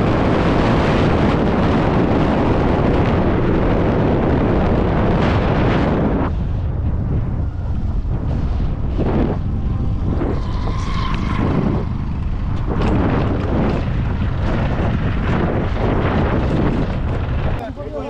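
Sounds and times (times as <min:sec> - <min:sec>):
motorcycle engine running: 0:00.0 - 0:17.6
wind buffeting microphone: 0:00.0 - 0:18.0.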